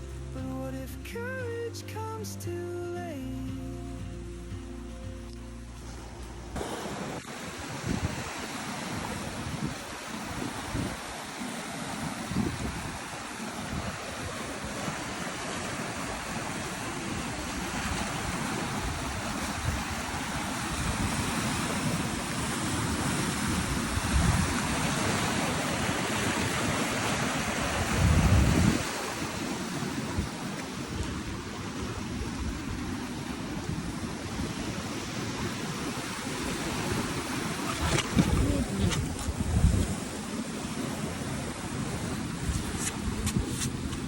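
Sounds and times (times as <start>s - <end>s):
ocean surf washing: 0.0s - 44.0s
wind on microphone: 6.4s - 44.0s.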